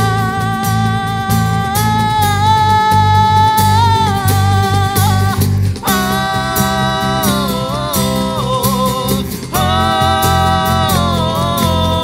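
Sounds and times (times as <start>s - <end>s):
cajon beat: 0.0s - 12.0s
electric bass: 0.0s - 12.0s
man singing long notes: 0.0s - 12.0s
strummed acoustic guitars: 0.0s - 12.0s.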